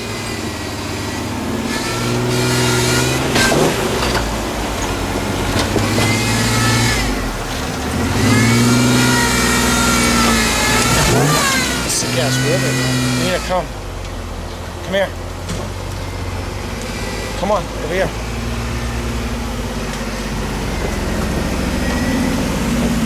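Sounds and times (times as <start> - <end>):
truck engine revving hard: 0.0 - 23.0.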